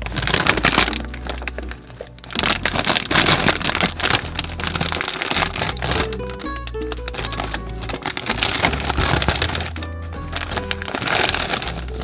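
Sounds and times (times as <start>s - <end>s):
background music: 0.0s - 12.0s
dense crackling: 0.0s - 12.0s.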